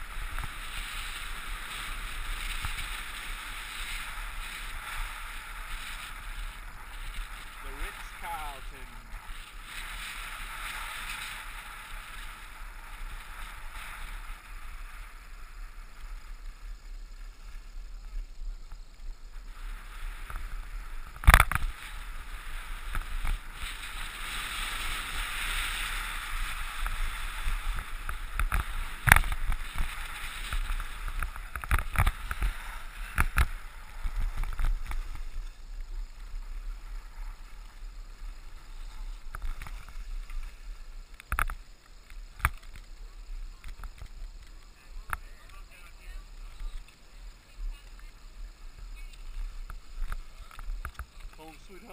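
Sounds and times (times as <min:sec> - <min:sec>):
skis hissing on snow: 0:00.0 - 0:51.9.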